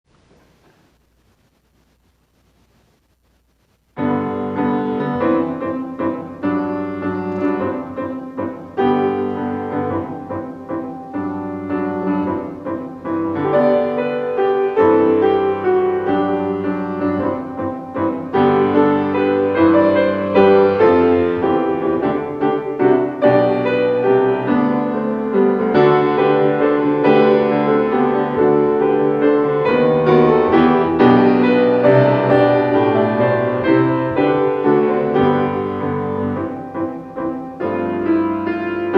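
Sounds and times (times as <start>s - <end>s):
solo piano playing: 4.0s - 38.9s.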